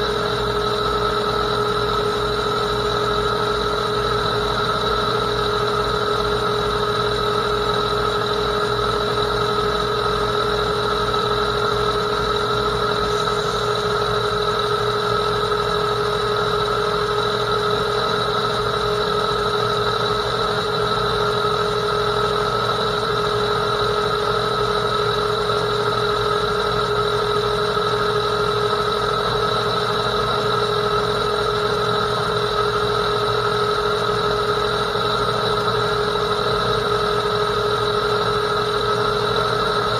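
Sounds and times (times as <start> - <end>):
lathe cutting whine: 0.0 - 39.9
lathe running noise: 0.0 - 39.9.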